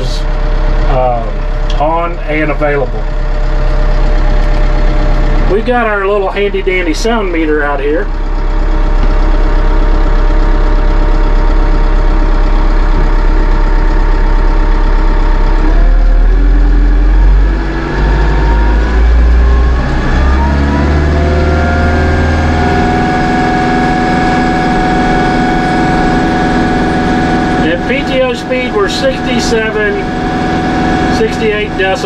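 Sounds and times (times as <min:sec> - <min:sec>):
tractor diesel engine revving: 0:00.0 - 0:32.0.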